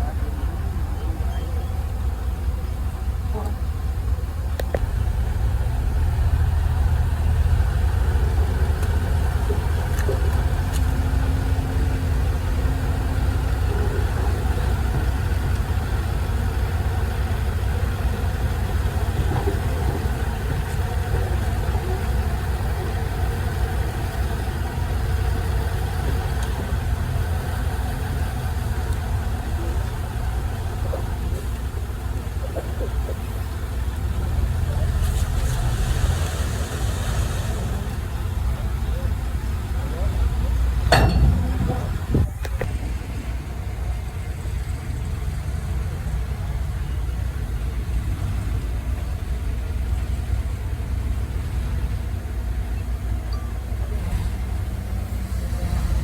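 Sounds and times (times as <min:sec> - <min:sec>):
heavy machinery engine rumbling: 0:00.0 - 0:56.0.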